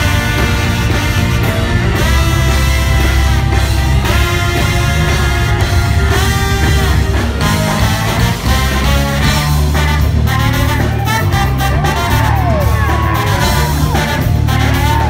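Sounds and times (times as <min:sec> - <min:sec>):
live band playing loud: 0:00.0 - 0:15.0
sliding trombone notes: 0:00.0 - 0:15.0.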